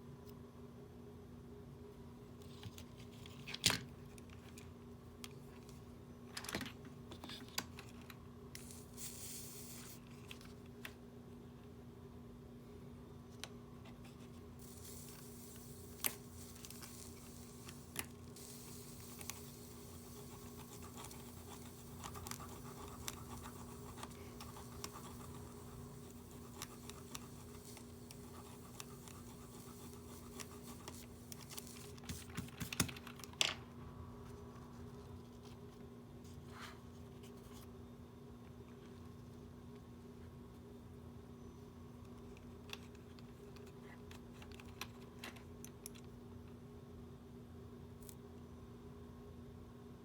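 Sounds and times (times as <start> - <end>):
steady low hum: 4.0 - 50.0.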